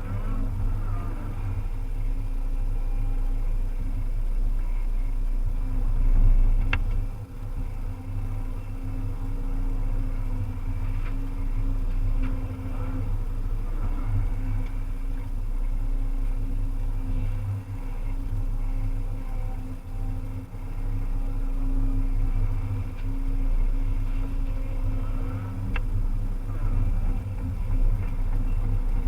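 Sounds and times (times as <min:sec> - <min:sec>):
excavator diesel engine running: 0:00.0 - 0:29.0
faint ticks: 0:03.8 - 0:29.0.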